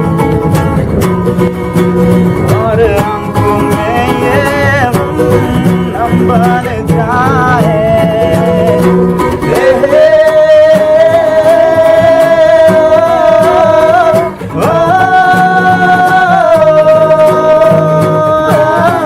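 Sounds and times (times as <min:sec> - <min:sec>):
strummed acoustic guitar: 0:00.0 - 0:19.0
person singing wordlessly: 0:02.5 - 0:19.0.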